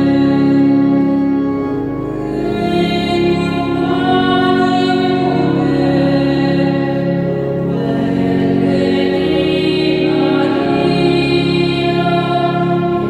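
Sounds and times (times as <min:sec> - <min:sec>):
slow hymn music chords: 0:00.0 - 0:13.0.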